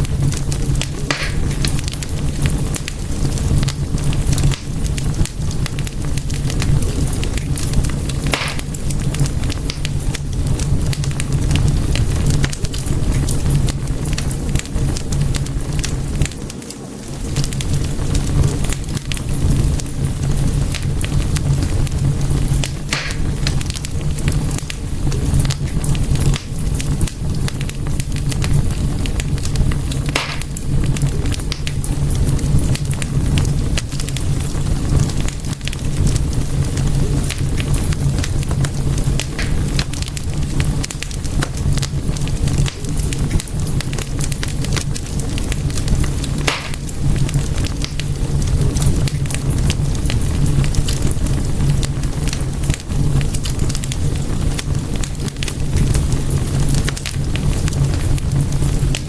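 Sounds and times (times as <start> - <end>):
low roar of flames: 0.0 - 59.0
wood fire crackling and popping: 0.0 - 59.0.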